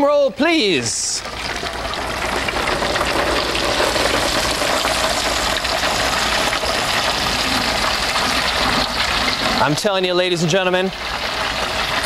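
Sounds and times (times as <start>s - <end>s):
oil sizzling and bubbling: 0.0s - 12.0s.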